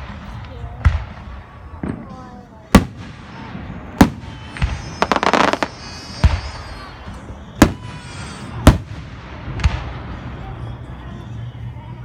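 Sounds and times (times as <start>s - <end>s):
firework shells booming: 0.0s - 10.2s
firework crackling: 0.0s - 11.0s.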